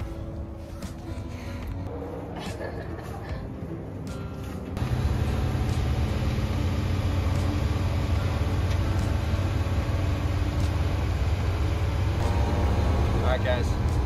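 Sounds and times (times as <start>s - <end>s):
road noise: 0.0s - 14.0s
bus engine rumble: 1.0s - 14.0s.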